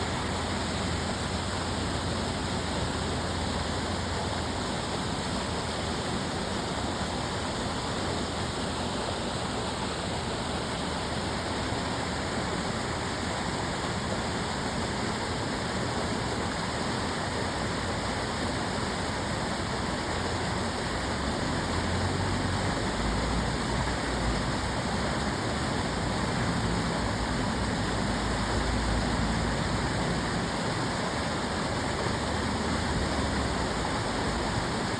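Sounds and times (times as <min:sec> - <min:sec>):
water rushing along channel: 0:00.0 - 0:34.9.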